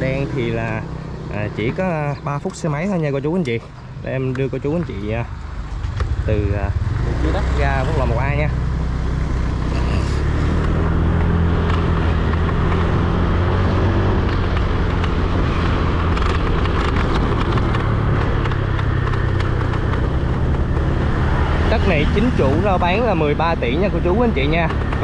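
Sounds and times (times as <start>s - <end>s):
wind and road noise: 0.0s - 25.0s
motorbike engine running: 4.1s - 25.0s.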